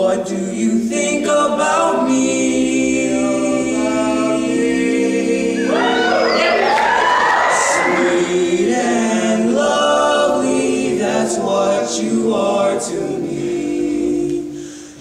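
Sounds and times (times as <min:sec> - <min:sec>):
boys singing a cappella harmony: 0:00.0 - 0:15.0.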